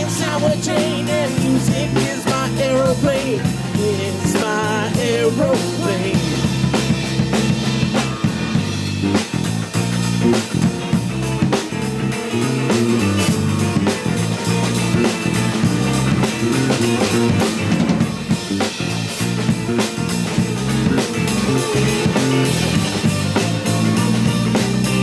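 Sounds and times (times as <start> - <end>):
drum kit: 0.0 - 25.0
electric bass: 0.0 - 25.0
electric guitar bending notes: 0.0 - 25.0.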